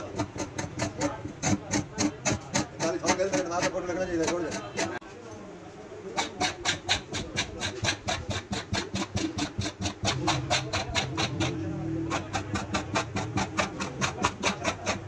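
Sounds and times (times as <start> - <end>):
rapid sharp strokes on tire: 0.0 - 5.0, 6.1 - 15.0.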